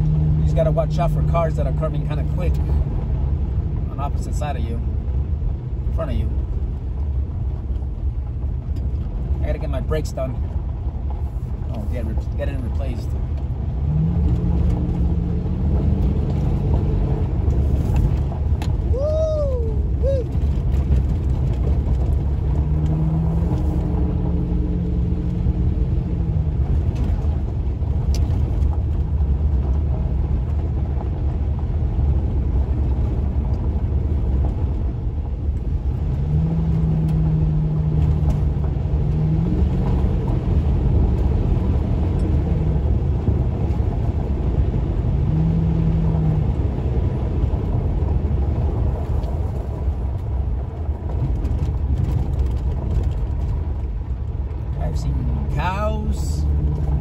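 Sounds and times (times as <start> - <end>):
truck engine and exhaust: 0.0 - 57.0
tyre and road rumble: 0.0 - 57.0.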